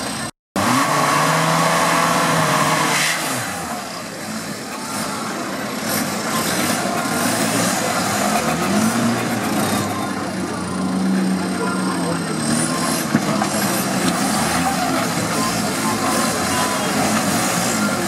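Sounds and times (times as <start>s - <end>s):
buggy engine working hard: 0.0s - 18.0s.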